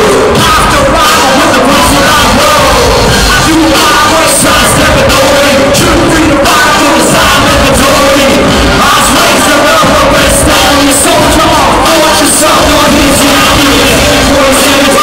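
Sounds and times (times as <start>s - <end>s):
rap rock band playing: 0.0s - 15.0s
shouted half-sung vocals: 0.0s - 15.0s.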